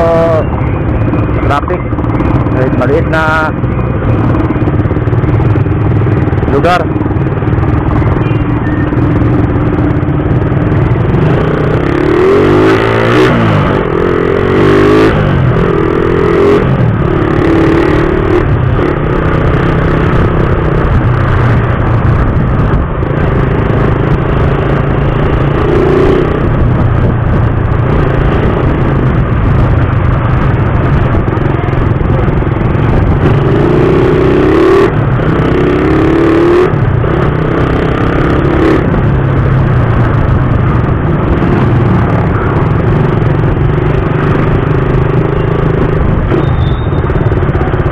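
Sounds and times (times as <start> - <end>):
motorcycle engine revving: 0.0 - 47.9
road and wind noise: 0.0 - 47.9.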